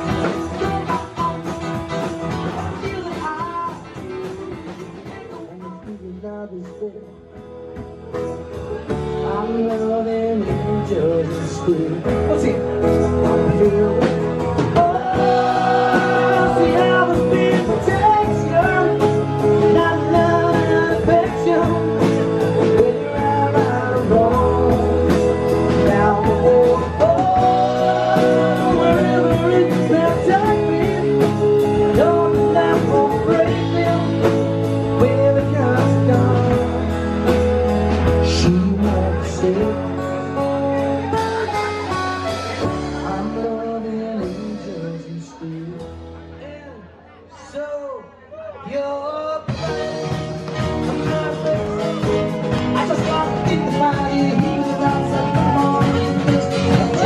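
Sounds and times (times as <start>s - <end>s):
drum kit steady beat: 0.0s - 40.0s, 49.4s - 57.0s
acoustic guitar: 0.0s - 57.0s
man singing: 0.0s - 57.0s.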